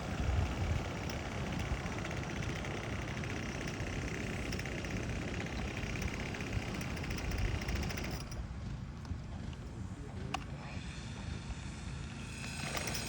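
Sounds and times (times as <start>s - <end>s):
small two-stroke engine buzzing: 0.0s - 13.0s.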